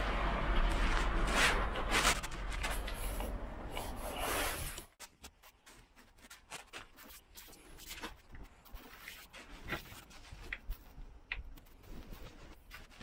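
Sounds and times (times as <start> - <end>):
hands rubbing and rustling parts: 0.5 - 13.0.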